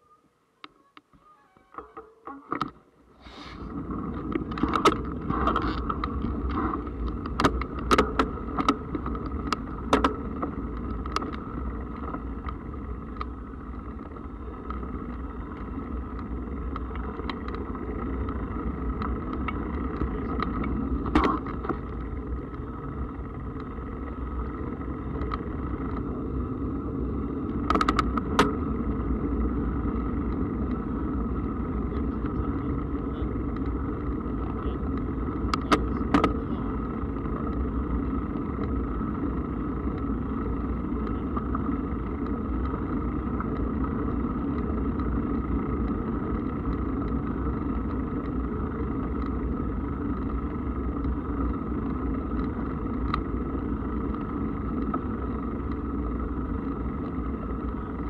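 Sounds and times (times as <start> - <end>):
bike tyres rolling on path: 0.8 - 58.0.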